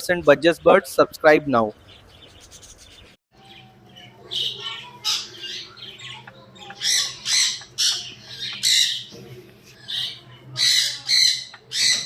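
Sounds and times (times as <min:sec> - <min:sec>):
parrots squawking and chirping: 0:01.7 - 0:12.0.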